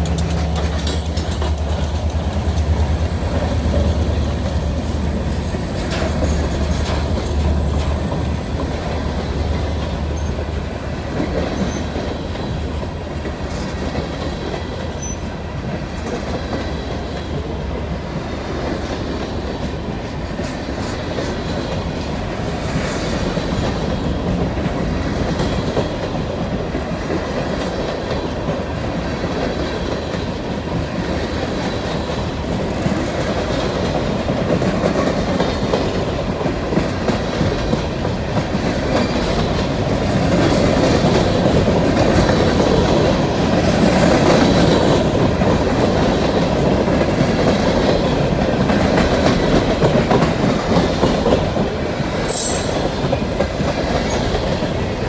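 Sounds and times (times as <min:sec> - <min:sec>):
diesel locomotive rumble: 0:00.0 - 0:55.0
train wheels clattering over rail joints: 0:00.0 - 0:55.0.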